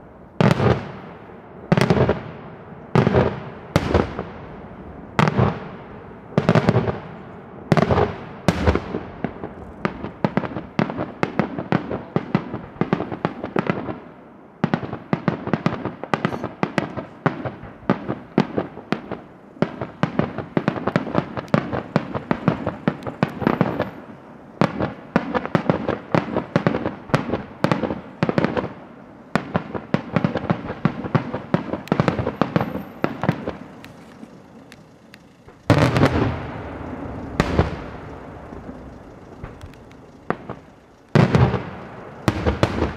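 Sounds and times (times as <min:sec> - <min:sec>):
heavy firework bangs: 0:00.0 - 0:42.9
sharp firework cracks: 0:00.4 - 0:42.9.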